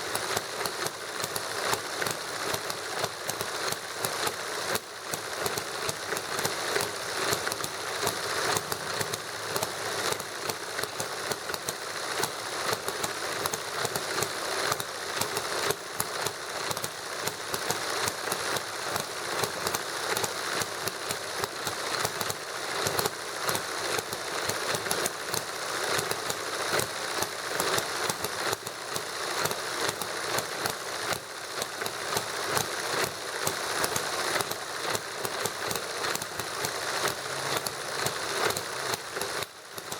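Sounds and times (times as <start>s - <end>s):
model engines clattering: 0.0s - 39.9s.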